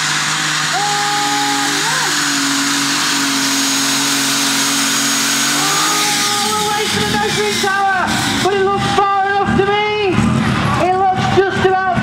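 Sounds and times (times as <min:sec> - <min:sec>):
high whine: 0:00.0 - 0:10.8
tractor engine running loud: 0:00.0 - 0:12.0.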